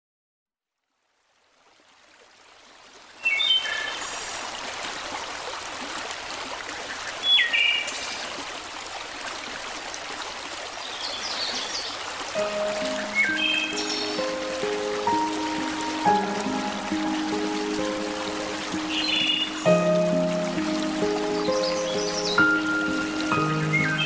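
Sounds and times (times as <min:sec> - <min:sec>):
running water rushing: 0:01.4 - 0:24.0.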